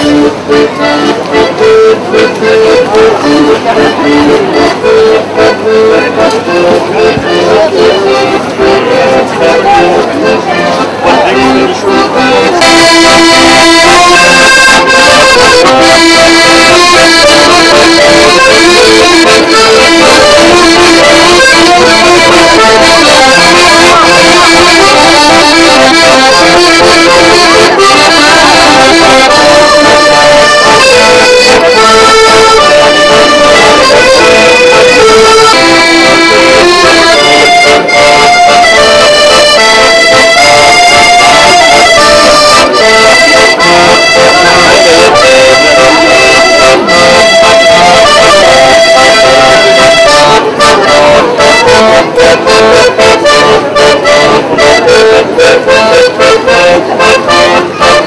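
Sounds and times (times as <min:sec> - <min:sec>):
accordion playing a tune: 0:00.0 - 0:58.0.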